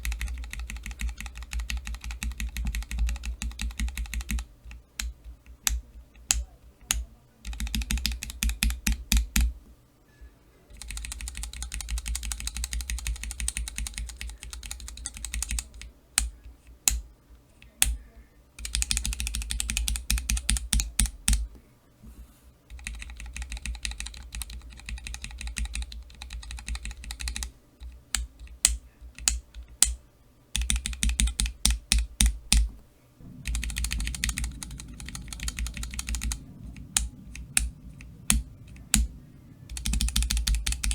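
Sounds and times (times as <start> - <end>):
mechanical keyboard keys clicking: 0.0 - 9.6, 10.7 - 17.0, 18.6 - 21.5, 22.7 - 32.7, 33.3 - 40.9.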